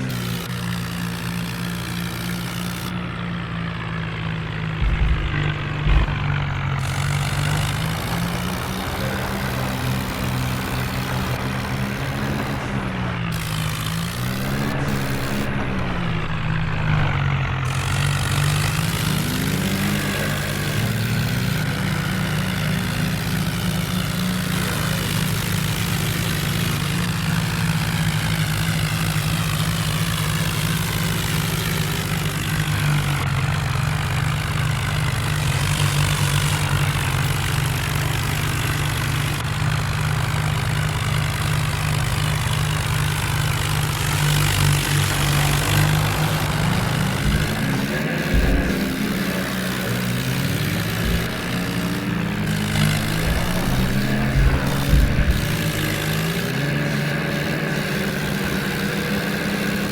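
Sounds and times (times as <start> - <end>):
diesel tractor engines running: 0.0 - 59.9.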